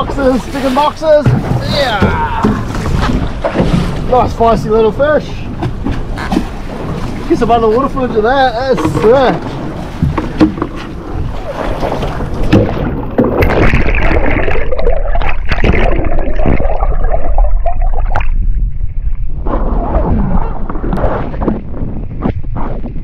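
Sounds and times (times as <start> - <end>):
knocks and splashes: 0.0 - 23.0
water sloshing and gurgling: 0.0 - 23.0.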